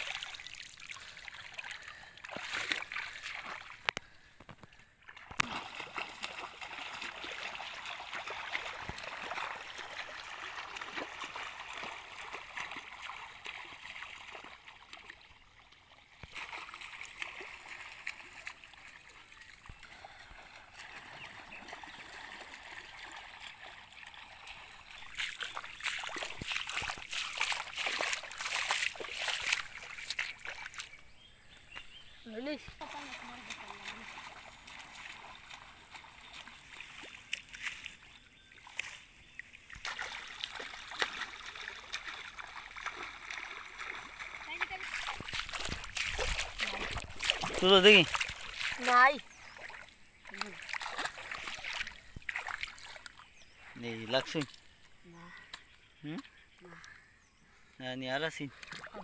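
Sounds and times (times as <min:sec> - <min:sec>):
muddy water splashing: 0:00.0 - 0:59.0.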